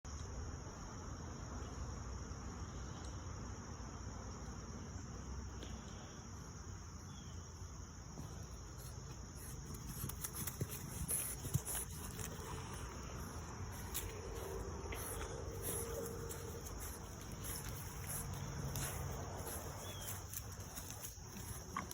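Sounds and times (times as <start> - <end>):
insects chirring: 0.2 - 21.9.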